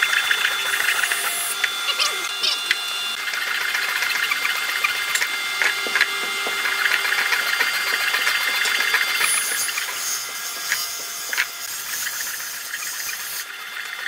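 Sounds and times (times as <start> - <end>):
power tool running: 0.0 - 14.0.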